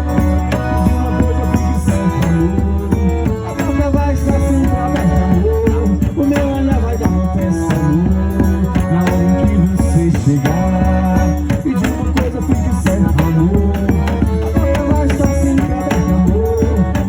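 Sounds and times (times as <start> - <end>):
instrumental melody line: 0.0 - 17.0
rattling percussion: 0.0 - 17.0
steady bass and beat: 0.0 - 17.0.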